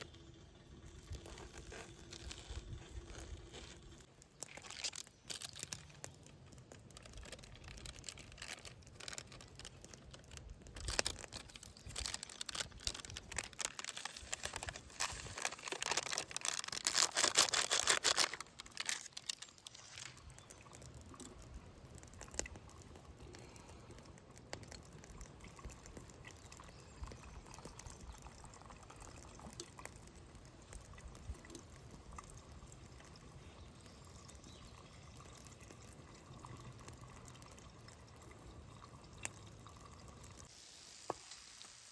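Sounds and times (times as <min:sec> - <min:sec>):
liquid being poured: 0:00.0 - 0:41.7.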